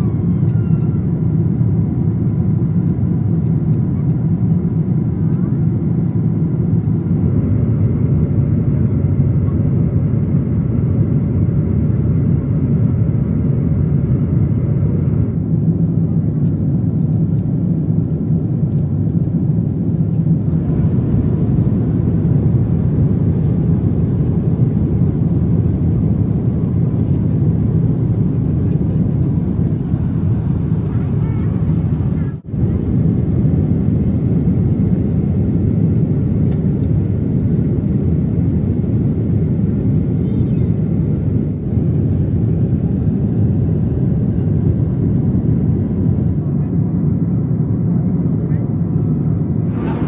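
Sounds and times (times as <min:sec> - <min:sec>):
airplane cabin engine noise: 0:00.0 - 0:50.0.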